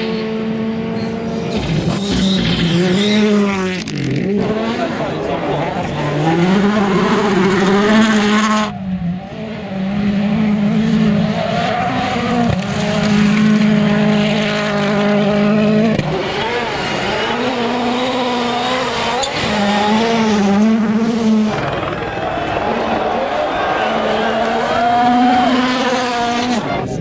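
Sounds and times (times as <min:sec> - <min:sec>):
rally car engines at high revs: 0:00.0 - 0:27.0.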